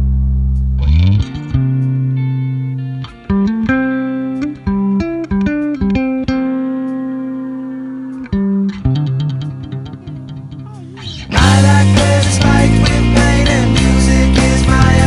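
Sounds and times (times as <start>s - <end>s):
guitar plucking single notes: 0.0s - 15.0s.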